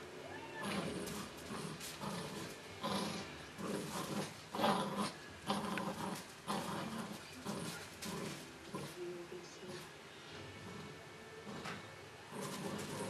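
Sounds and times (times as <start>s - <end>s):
puppy growling in play: 0.4s - 13.0s.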